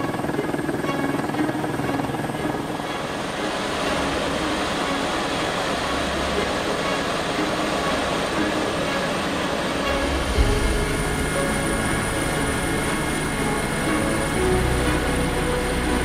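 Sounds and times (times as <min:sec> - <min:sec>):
helicopter engine noise: 0:00.0 - 0:16.0
helicopter rotor beat: 0:00.0 - 0:16.0.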